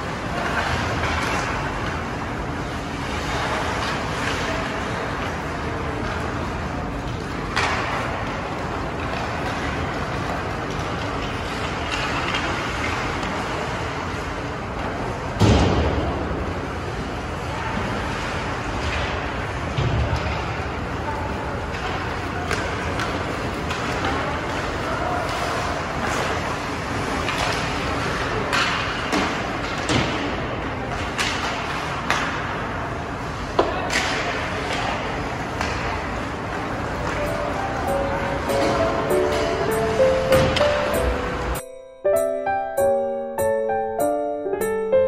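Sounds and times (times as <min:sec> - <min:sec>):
skates and sticks on ice: 0:00.0 - 0:39.4
steady hall hiss: 0:00.0 - 0:45.0.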